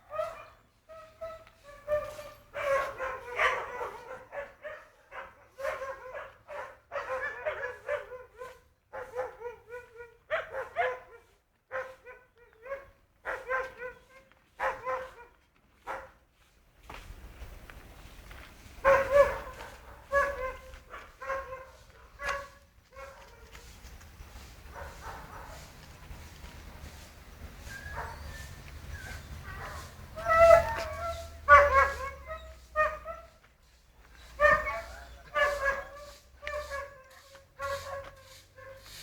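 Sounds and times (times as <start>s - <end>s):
dogs barking and yelping: 0.0s - 15.3s, 18.8s - 39.0s.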